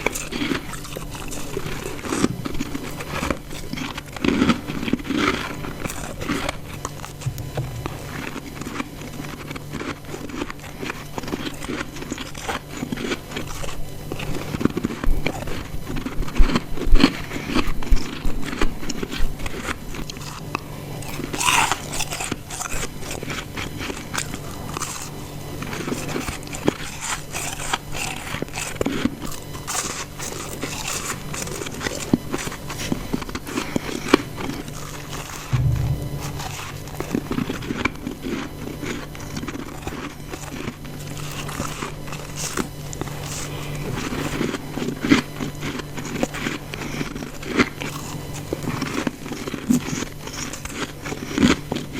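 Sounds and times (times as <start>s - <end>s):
chewing ice crunches: 0.0s - 35.5s, 38.3s - 51.9s.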